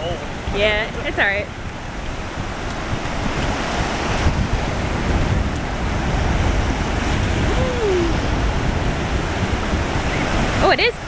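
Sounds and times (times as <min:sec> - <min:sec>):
ocean surf washing in: 0:00.0 - 0:11.0
wind rumbling on microphone: 0:00.0 - 0:11.0.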